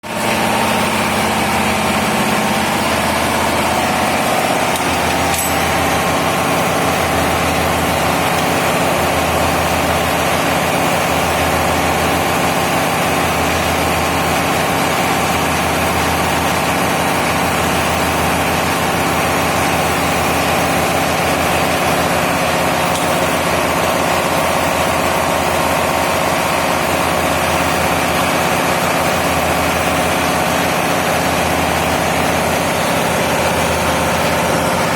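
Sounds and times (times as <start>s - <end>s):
large diesel engine running: 0.0s - 34.9s.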